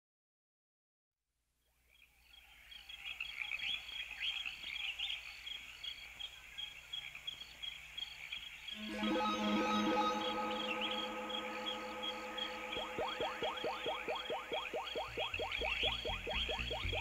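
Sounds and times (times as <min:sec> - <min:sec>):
birds and insects chirping: 0:01.9 - 0:17.0.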